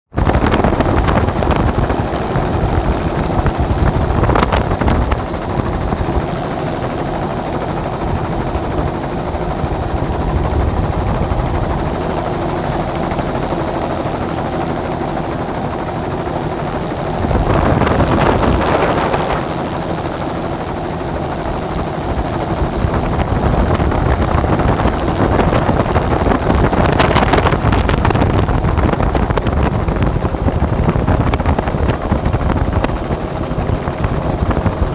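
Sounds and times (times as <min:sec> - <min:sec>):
helicopter rotor noise: 0:00.1 - 0:34.9
wind noise gusts: 0:00.1 - 0:34.9
constant high whine: 0:00.2 - 0:34.9.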